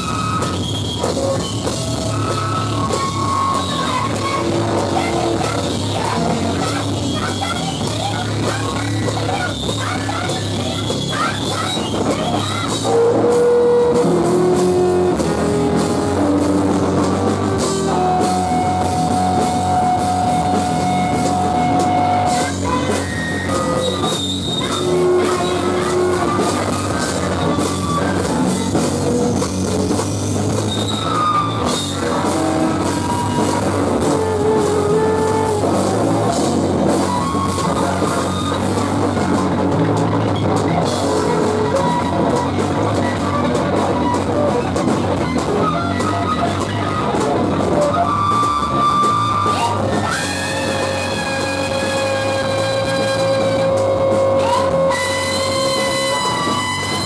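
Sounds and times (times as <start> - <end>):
loud live rock band: 0.0 - 57.0.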